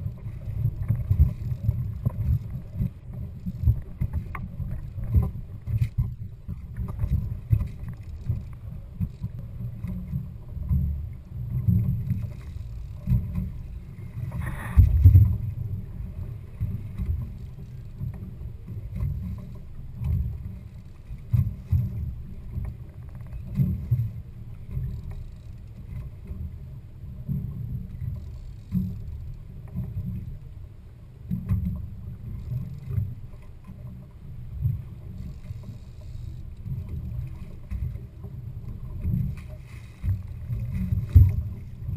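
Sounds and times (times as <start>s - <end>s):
boat engine rumble: 0.0s - 41.9s.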